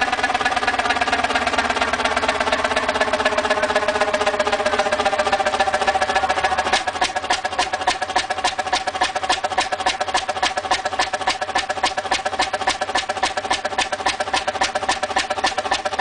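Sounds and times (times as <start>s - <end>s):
large engine clattering: 0.0s - 16.0s
steady engine whine: 0.0s - 16.0s.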